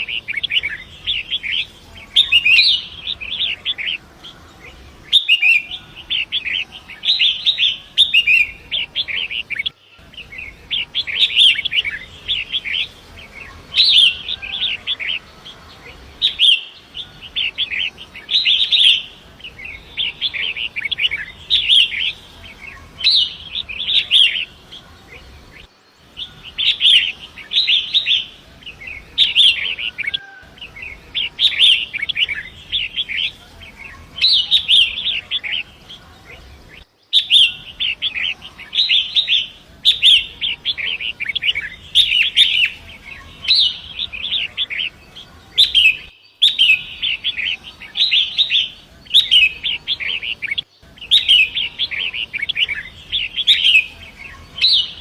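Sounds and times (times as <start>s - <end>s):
bird singing scratchy chattering phrases: 0.0s - 55.0s.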